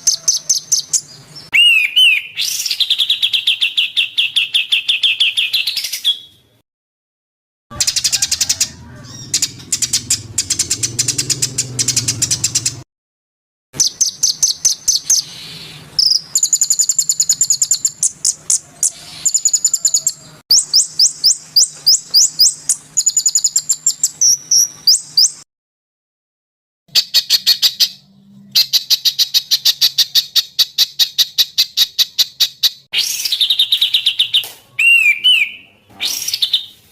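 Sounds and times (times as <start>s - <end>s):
songbirds chirping and trilling: 0.0s - 6.4s, 7.7s - 12.8s, 13.8s - 25.4s, 26.9s - 36.9s.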